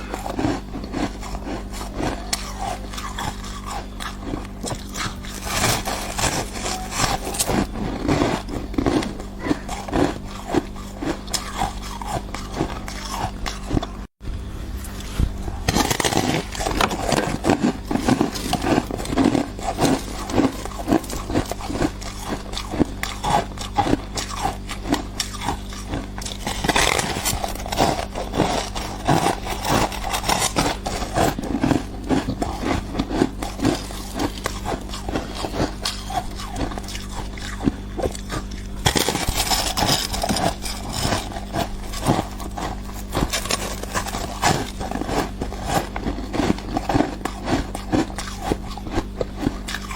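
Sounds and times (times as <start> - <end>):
chewing crunchy ice: 0.0 - 14.2, 14.9 - 49.9.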